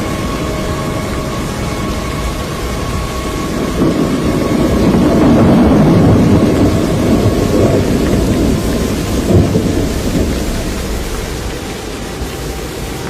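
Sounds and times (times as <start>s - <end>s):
wind and rain rumble: 0.0s - 13.0s.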